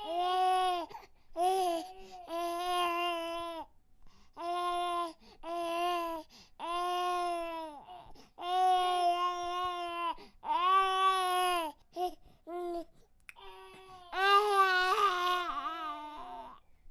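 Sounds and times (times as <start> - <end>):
baby crying: 0.0 - 3.7, 4.4 - 16.6.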